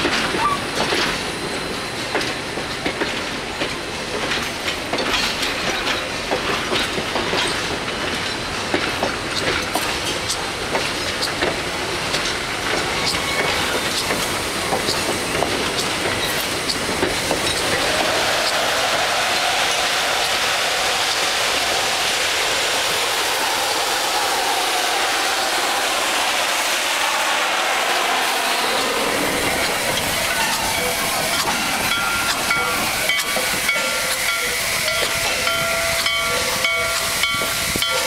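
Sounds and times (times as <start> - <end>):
train wheels clanking over rail joints: 0.0 - 26.2, 27.0 - 38.0
steam hissing: 0.0 - 38.0
train rumble: 0.0 - 38.0.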